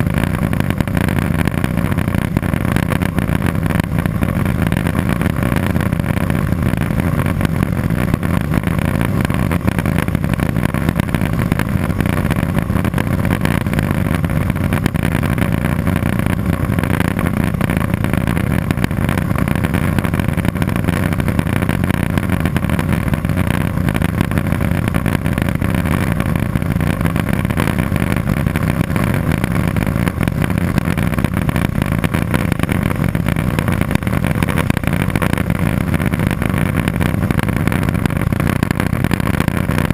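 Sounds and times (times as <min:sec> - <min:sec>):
propeller engine drone in cabin: 0:00.0 - 0:39.9.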